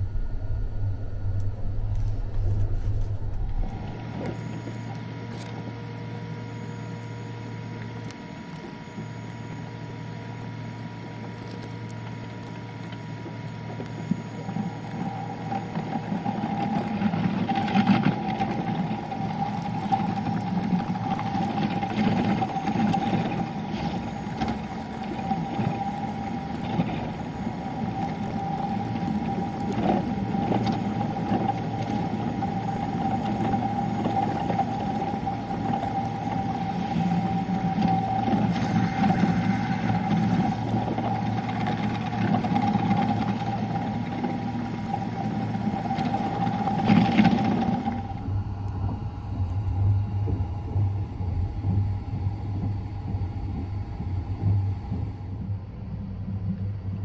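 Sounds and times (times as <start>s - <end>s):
train rumble and hum: 0.0s - 4.6s, 15.1s - 57.0s.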